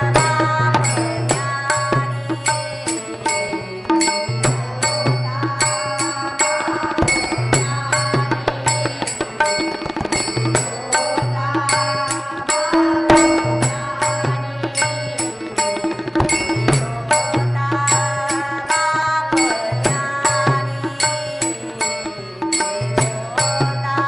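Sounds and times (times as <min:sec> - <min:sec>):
hand cymbals struck: 0:00.0 - 0:24.0
harmonium: 0:00.0 - 0:24.0
women singing: 0:00.0 - 0:24.0.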